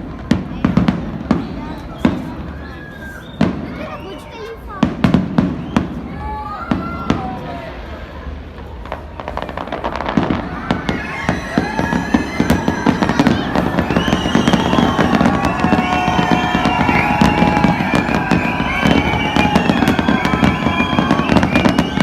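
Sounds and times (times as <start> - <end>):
fireworks bangs and crackling: 0.0 - 22.0
whistling firework tones: 1.2 - 22.0.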